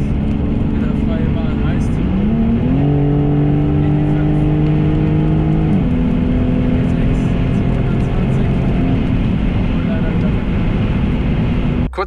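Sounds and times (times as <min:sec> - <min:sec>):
car engine from inside cabin: 0:00.0 - 0:12.0
road and wind noise: 0:00.0 - 0:12.0.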